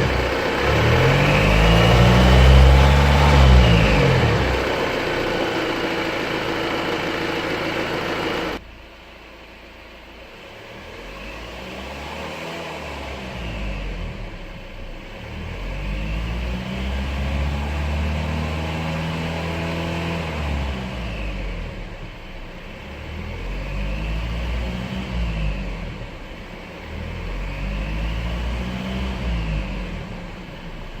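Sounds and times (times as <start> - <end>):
diesel engine revving: 0.0 - 8.6, 10.4 - 31.0.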